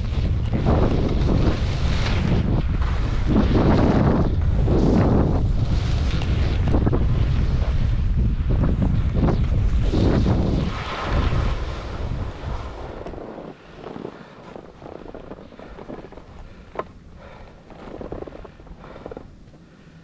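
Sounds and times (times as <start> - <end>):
skis hissing over snow: 0.0 - 19.3
wind buffeting microphone: 0.0 - 20.0
skis scuffing on snow: 0.1 - 8.0, 9.7 - 19.7.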